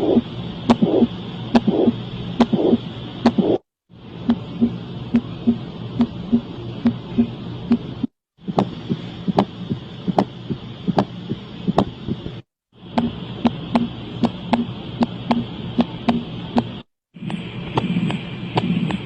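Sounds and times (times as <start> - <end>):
heartbeat clicking beats: 0.0 - 3.6, 4.3 - 12.4, 13.0 - 19.0
low rumble and hiss: 0.0 - 19.0.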